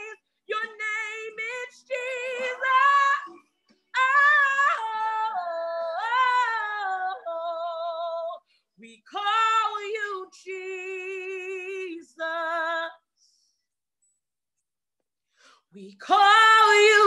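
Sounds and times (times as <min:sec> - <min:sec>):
woman singing unaccompanied: 0:00.0 - 0:13.0, 0:15.8 - 0:17.0.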